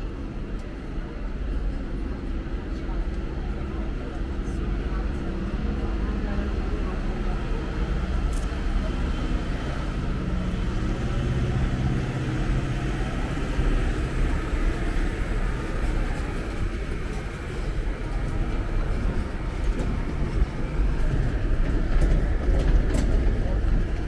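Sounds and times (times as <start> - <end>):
city street noise: 0.0 - 24.0
road train engine rumble: 0.0 - 24.0.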